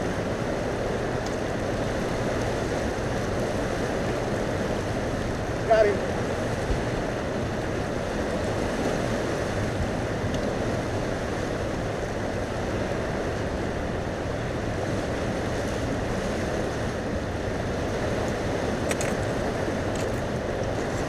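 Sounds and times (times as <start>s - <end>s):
fast river water rushing: 0.0s - 21.0s.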